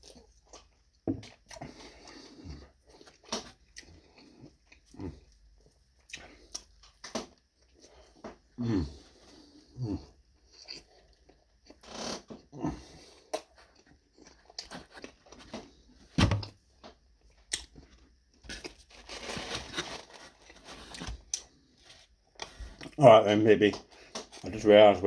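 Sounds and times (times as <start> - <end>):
person chewing pizza: 0.0 - 23.0.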